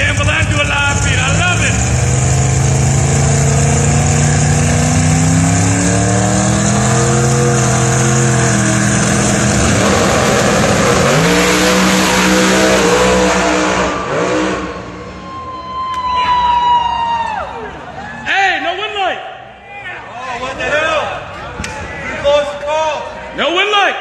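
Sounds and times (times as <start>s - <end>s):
drag racing engines roaring: 0.0s - 23.7s.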